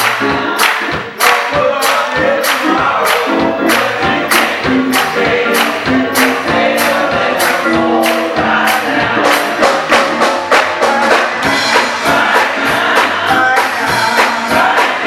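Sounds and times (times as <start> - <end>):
church band playing: 0.0 - 15.0
drums keeping a beat: 0.0 - 15.0
gospel choir singing: 0.0 - 15.0.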